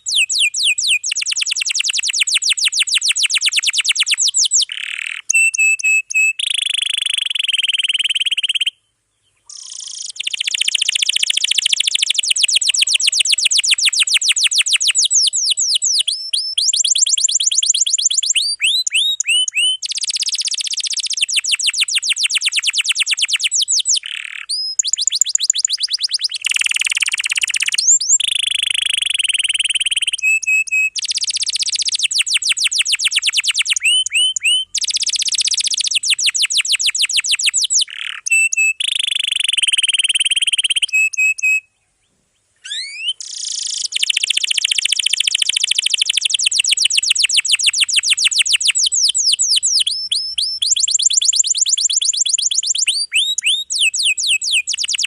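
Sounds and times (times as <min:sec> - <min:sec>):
canary singing trills: 0:00.0 - 0:41.8, 0:42.6 - 0:55.0.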